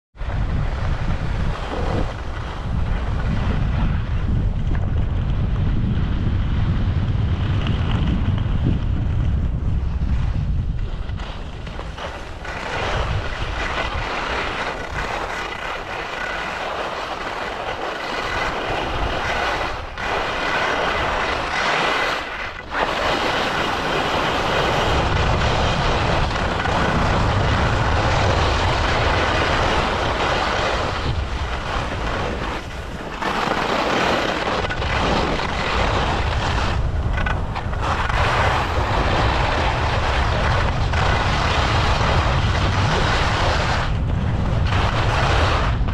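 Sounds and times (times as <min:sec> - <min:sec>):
skis scraping on snow: 0:00.2 - 0:45.9
wind buffeting microphone: 0:00.2 - 0:45.9.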